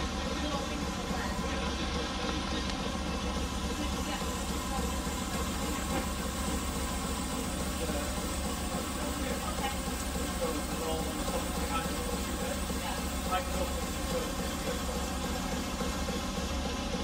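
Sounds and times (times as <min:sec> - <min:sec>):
steam engine running: 0:00.0 - 0:17.0.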